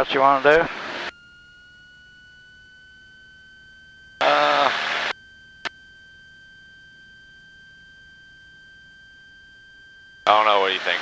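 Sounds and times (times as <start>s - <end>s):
faint electrical whine: 0.0s - 11.0s.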